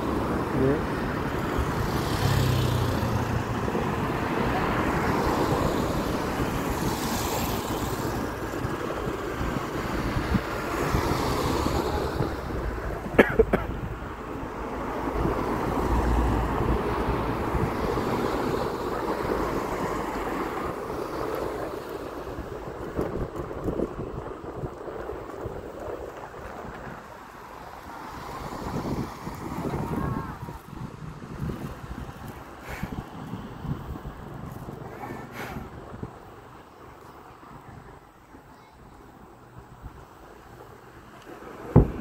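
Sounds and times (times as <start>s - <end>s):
road traffic passing: 0.0s - 42.0s
wind buffeting microphone: 0.0s - 42.0s.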